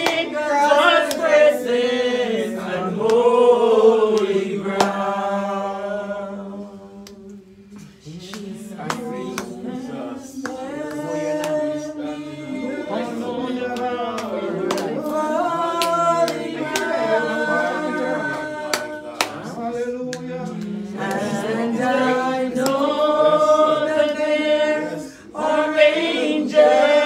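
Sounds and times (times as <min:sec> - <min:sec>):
voices singing worship song: 0:00.0 - 0:27.0.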